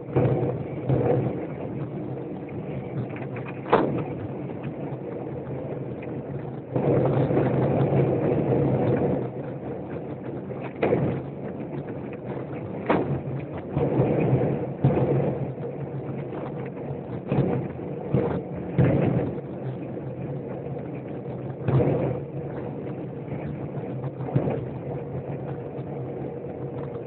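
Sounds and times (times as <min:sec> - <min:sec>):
wind noise: 0:00.0 - 0:27.0.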